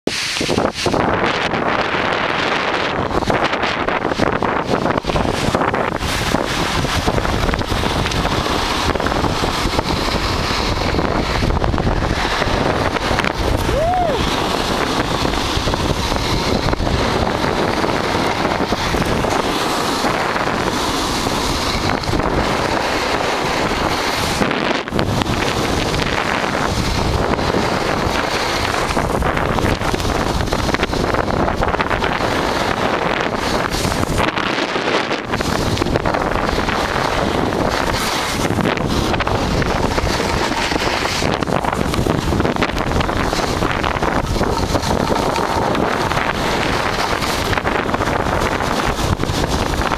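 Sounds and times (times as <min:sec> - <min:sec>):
wind rushing over microphone: 0:00.0 - 0:49.9
snowboard scraping on snow: 0:00.1 - 0:49.9.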